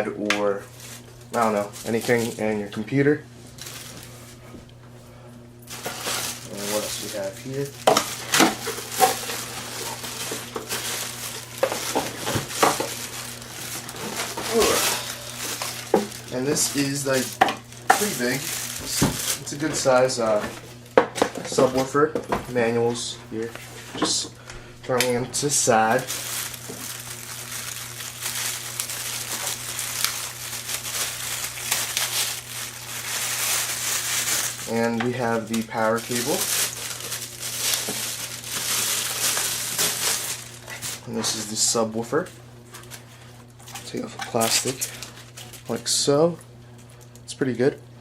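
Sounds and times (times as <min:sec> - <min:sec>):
plastic and cardboard rustling: 0:00.7 - 0:02.7, 0:03.4 - 0:04.7, 0:05.6 - 0:42.0, 0:42.6 - 0:45.9.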